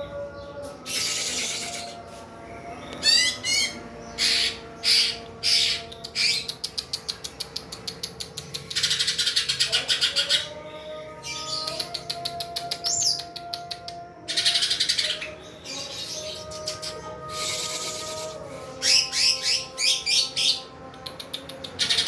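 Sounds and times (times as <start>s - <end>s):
bird singing with trills: 0.0s - 22.0s.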